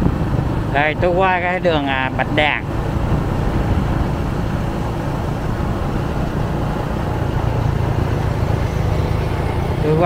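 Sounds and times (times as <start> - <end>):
city street traffic: 0.0 - 10.0.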